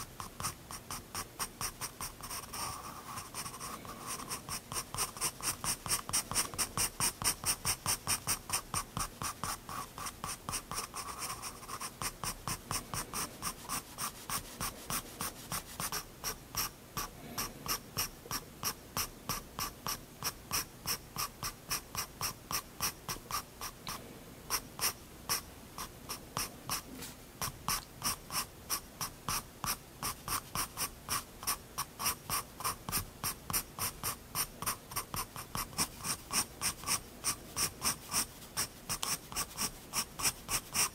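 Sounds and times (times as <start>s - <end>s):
pencil scratching on paper: 0.0s - 23.8s, 24.5s - 40.9s.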